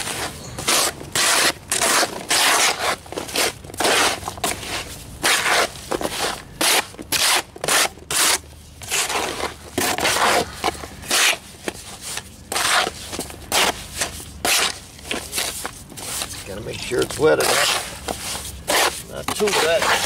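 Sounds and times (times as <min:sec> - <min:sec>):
trowel scraping through mortar: 0:00.0 - 0:20.0.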